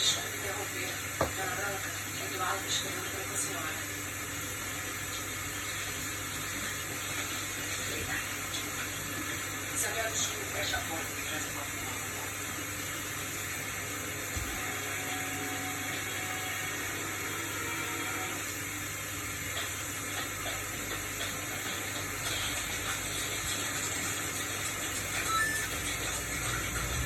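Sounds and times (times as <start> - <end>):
washing machine running: 0.0 - 27.0.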